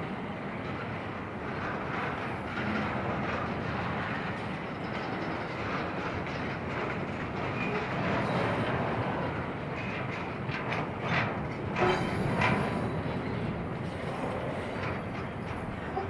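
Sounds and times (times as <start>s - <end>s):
freight train wheels rumbling on rails: 0.0s - 16.0s
light clatter: 0.5s - 16.0s.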